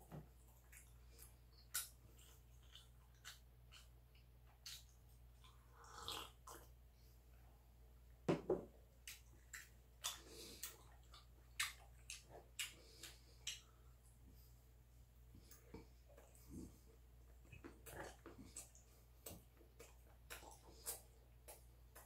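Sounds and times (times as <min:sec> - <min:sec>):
chewing and handling food: 0:00.0 - 0:07.6, 0:08.9 - 0:22.0.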